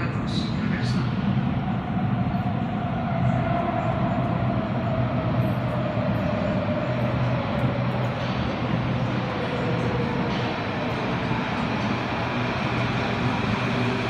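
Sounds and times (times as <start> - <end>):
metro train approaching in tunnel: 0.0 - 14.0.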